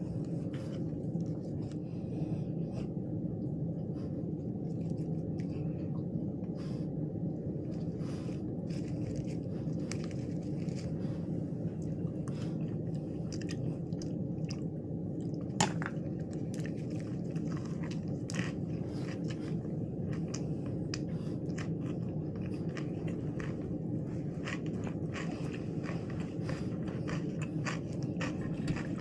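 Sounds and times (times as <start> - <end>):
crunchy chewing of lettuce: 0.0 - 2.9, 3.8 - 5.9, 6.5 - 29.0
steady low hum: 0.0 - 29.0.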